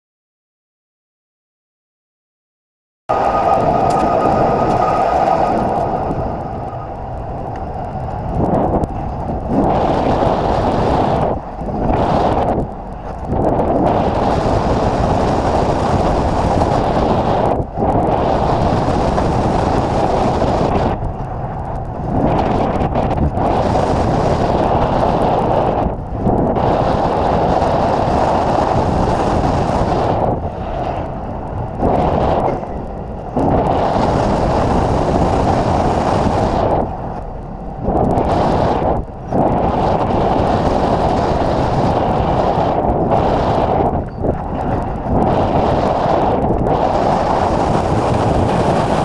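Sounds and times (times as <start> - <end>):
road and engine rumble: 3.1 - 49.0
wind buffeting microphone: 3.1 - 49.0.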